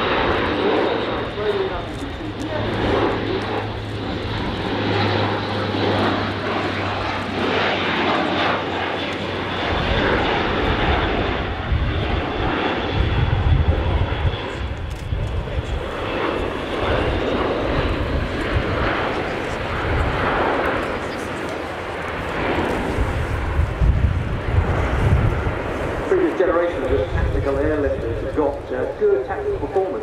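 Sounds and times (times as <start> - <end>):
turboprop aircraft passing: 0.0 - 30.0.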